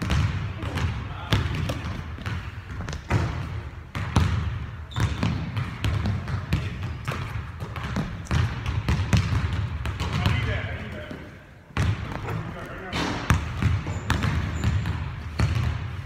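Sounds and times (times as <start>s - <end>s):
basketballs bouncing on gym floor: 0.0s - 16.0s.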